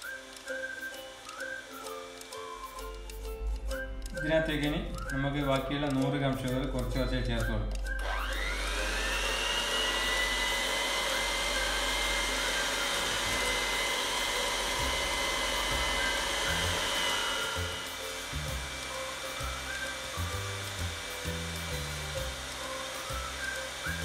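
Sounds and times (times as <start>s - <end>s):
electric hand mixer whirring: 0.0s - 5.1s, 7.8s - 24.0s.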